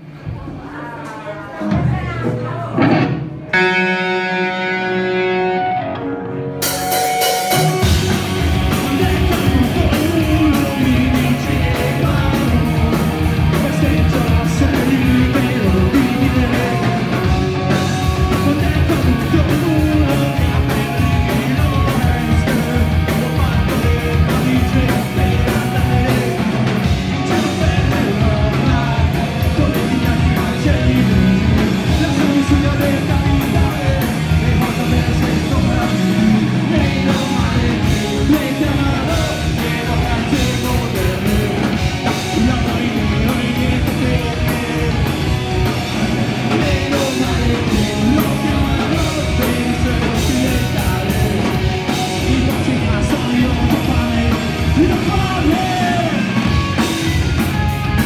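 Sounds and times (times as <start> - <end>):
punk rock band playing live: 0.0 - 58.0.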